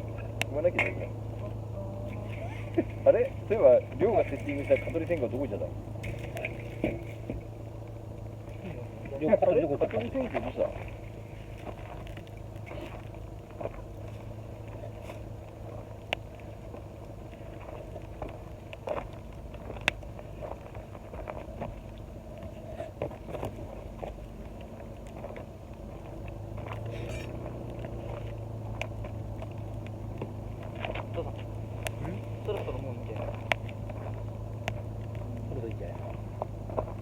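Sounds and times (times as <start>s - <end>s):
campfire crackling and popping: 0.0s - 37.0s
steady low hum: 0.0s - 37.0s.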